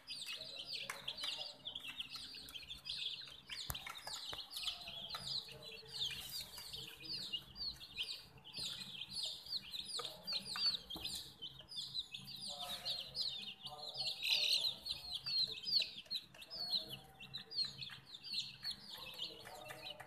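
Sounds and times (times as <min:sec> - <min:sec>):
baby chicks peeping: 0:00.0 - 0:20.0.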